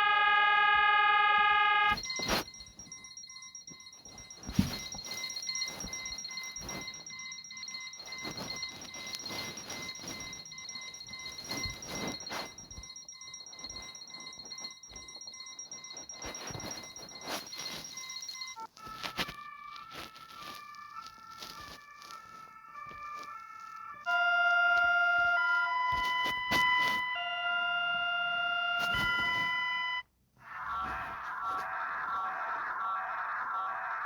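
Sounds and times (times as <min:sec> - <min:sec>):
rapidly pulsing electronic alarm: 0:00.0 - 0:18.7, 0:21.3 - 0:34.0
stepped electronic tone alarm tune: 0:00.0 - 0:19.3, 0:24.0 - 0:34.0.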